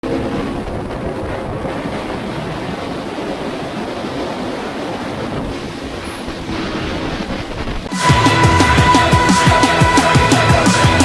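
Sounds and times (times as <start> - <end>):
wind rushing over microphone: 0.0 - 9.6.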